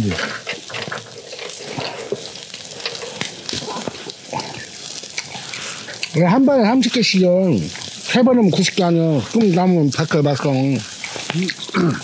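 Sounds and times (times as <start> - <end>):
crackles and pops: 0.0 - 12.0
meat sizzling on grill: 0.0 - 12.0.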